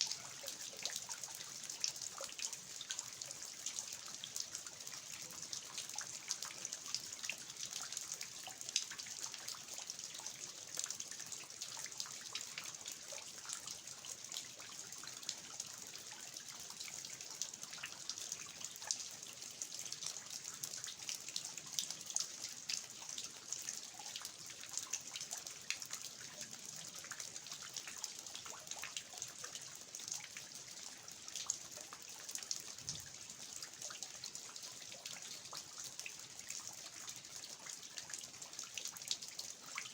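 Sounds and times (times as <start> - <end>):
water dripping from eaves: 0.0 - 39.9.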